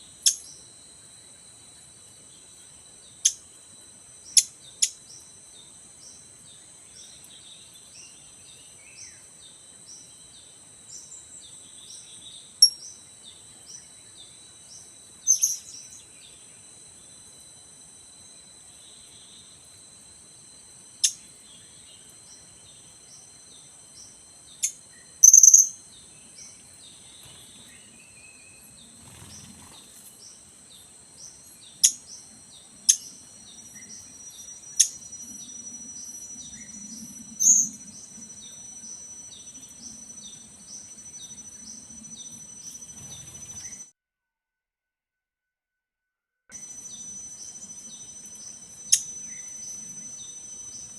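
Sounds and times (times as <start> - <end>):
high insect drone: 0.0 - 43.9, 46.5 - 50.9.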